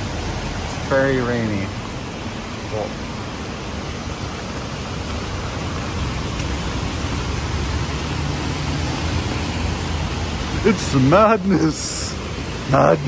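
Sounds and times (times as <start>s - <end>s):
rain on an umbrella: 0.0s - 13.0s.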